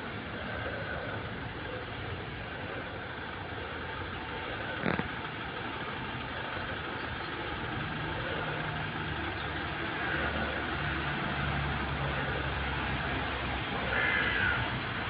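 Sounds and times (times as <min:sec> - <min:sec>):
outdoor noise: 0:00.0 - 0:15.0
vehicle engine idling: 0:00.0 - 0:15.0.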